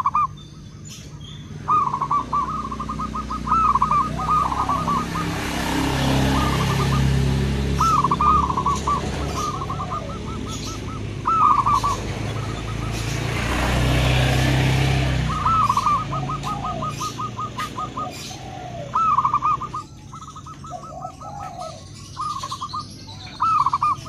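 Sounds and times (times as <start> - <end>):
doves cooing: 0.0 - 24.0.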